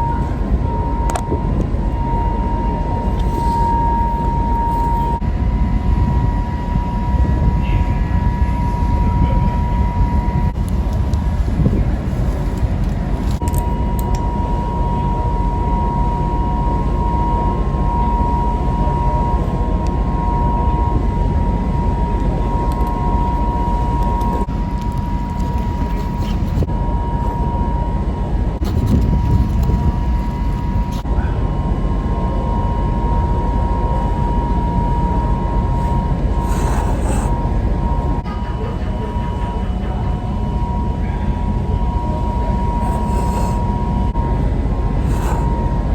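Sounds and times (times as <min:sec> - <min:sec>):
ferry engines rumbling: 0:00.0 - 0:45.9
thin steady whine: 0:00.0 - 0:45.9.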